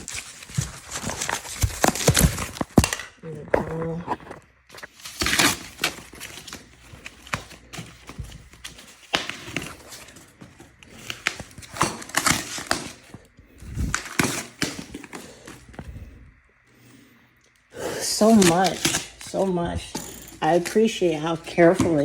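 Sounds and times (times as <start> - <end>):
packaging rustling and crinkling: 0.0 - 17.0, 18.0 - 22.0.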